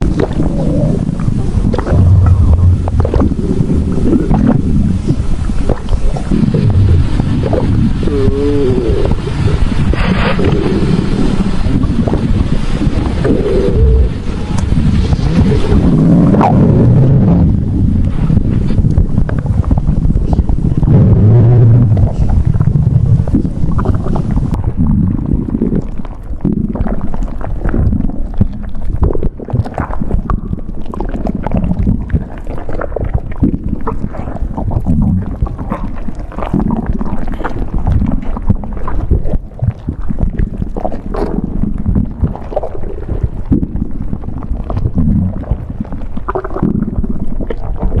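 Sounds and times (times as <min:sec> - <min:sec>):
stomach growling and gurgling: 0:00.0 - 0:48.0.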